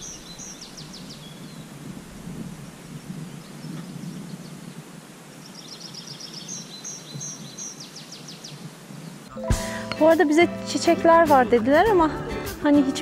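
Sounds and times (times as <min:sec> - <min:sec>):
songbird chirps and trills: 0:00.0 - 0:01.9, 0:03.0 - 0:13.0.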